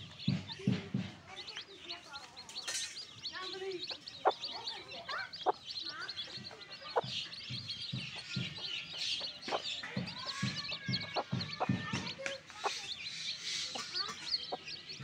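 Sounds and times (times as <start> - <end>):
chicks peeping: 0.0 - 15.0
hen clucking: 0.1 - 15.0.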